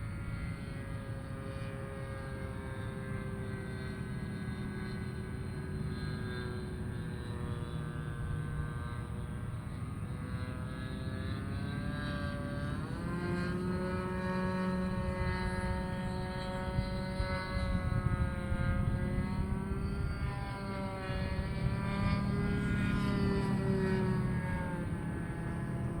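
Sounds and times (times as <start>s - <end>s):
model airplane engine and propeller: 0.0s - 26.0s.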